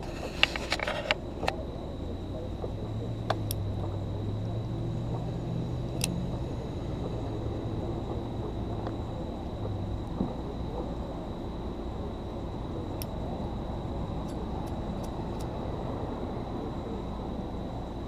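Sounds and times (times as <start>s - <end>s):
low engine hum: 0.0s - 18.0s
thin high whine: 0.0s - 18.0s.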